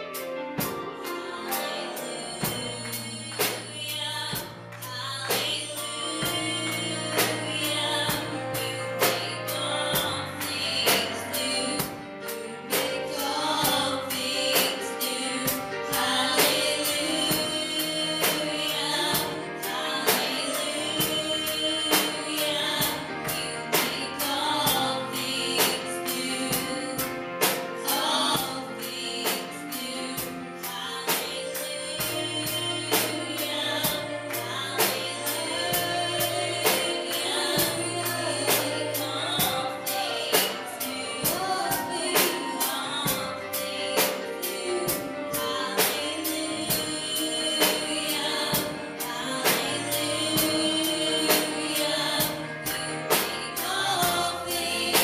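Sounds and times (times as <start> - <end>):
instrumental backing with beat: 0.0 - 55.0
women singing gospel song: 0.0 - 55.0.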